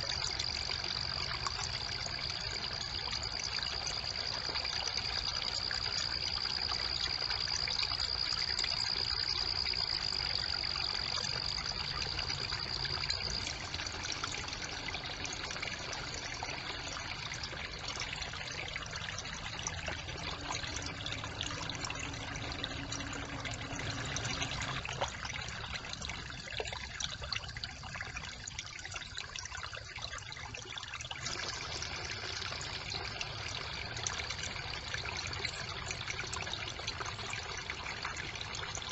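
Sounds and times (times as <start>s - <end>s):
brook water trickling: 0.0s - 38.9s.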